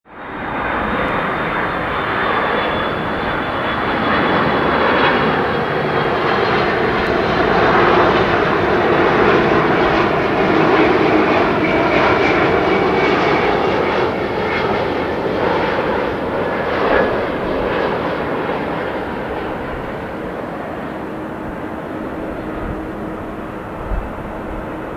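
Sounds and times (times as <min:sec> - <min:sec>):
jet airliner roar with high whine: 0:00.1 - 0:24.9.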